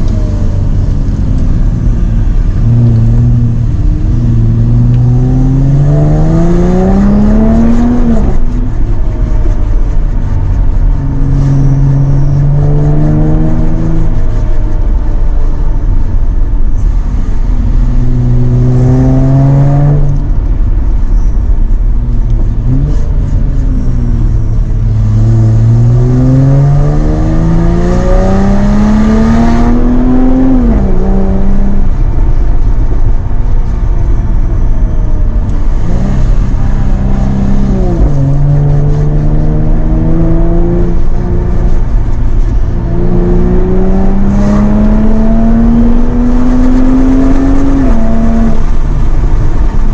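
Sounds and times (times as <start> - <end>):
car engine accelerating through gears: 0.0 - 49.9.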